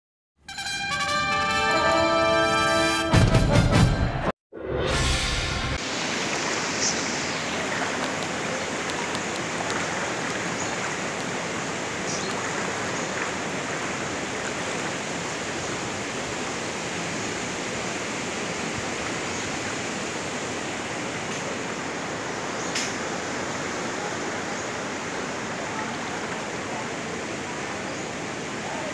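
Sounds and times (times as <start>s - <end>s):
floodwater rushing: 5.3s - 28.9s.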